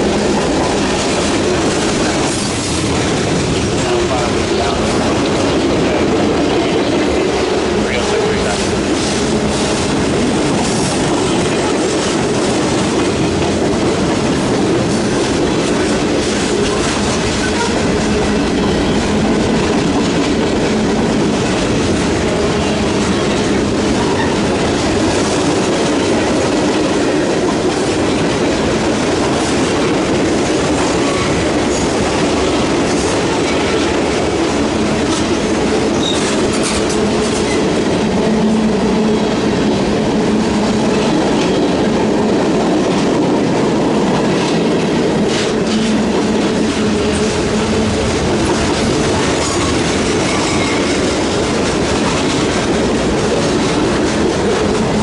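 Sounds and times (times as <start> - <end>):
steel wheels running on rails: 0.0 - 55.0.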